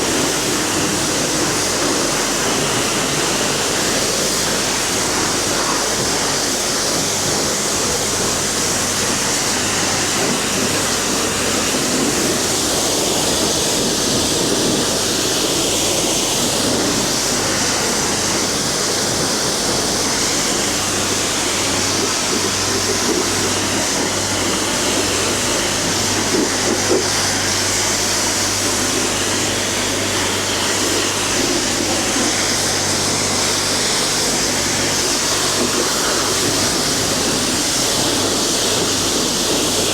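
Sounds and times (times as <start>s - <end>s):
pressure washer spraying water: 0.0s - 39.9s
steady low hum: 0.0s - 39.9s.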